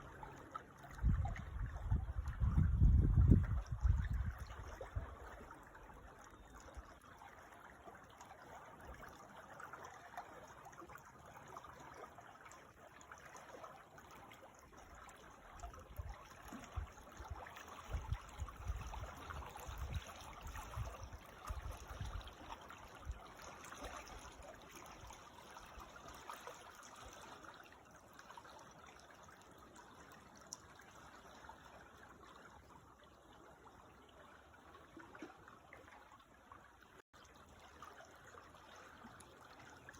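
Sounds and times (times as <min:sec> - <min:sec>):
creek trickling and babbling: 0:00.0 - 0:39.9.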